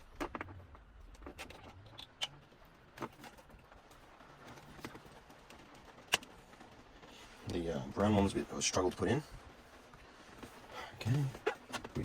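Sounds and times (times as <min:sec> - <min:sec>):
fumbling with connectors: 0:00.0 - 0:12.0.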